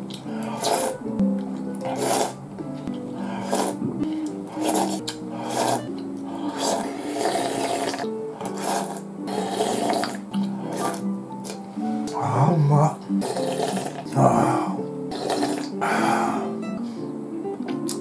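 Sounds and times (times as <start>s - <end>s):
background music with held notes: 0.0s - 18.0s
soup slurping: 0.2s - 1.1s, 1.7s - 12.3s, 13.1s - 16.6s.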